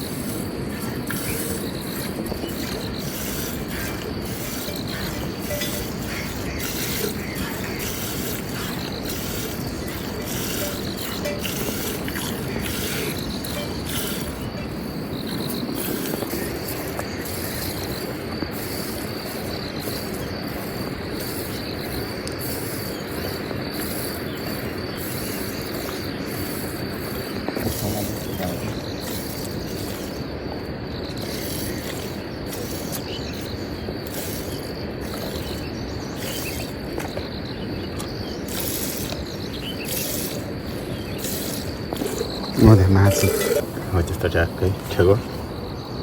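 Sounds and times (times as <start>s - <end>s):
insects chirping: 0.0s - 46.0s
rushing background noise: 0.0s - 46.0s.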